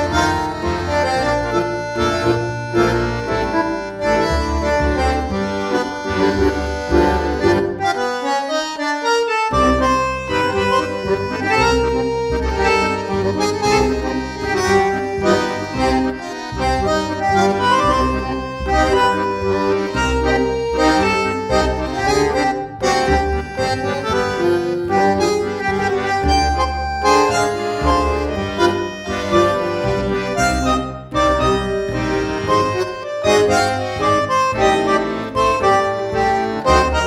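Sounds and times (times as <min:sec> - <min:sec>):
instrumental background music: 0:00.0 - 0:37.0.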